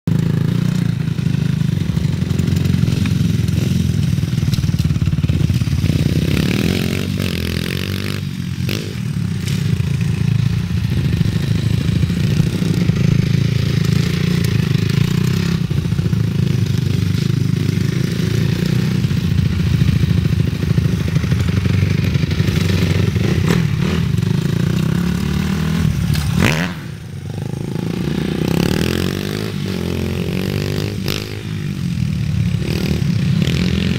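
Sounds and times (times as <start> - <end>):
dirt bike engines revving: 0.1 - 33.9.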